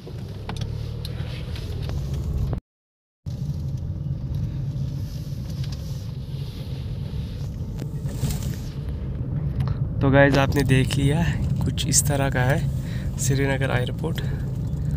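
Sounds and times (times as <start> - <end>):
car engine from inside cabin: 0.0 - 2.6, 3.3 - 14.9
road rumble: 0.0 - 2.6, 3.3 - 14.9.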